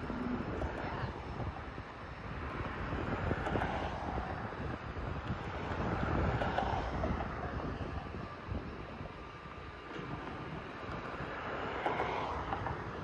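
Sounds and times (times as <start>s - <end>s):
traffic engines rumbling: 0.0s - 13.0s
wind gusting on microphone: 0.0s - 13.0s.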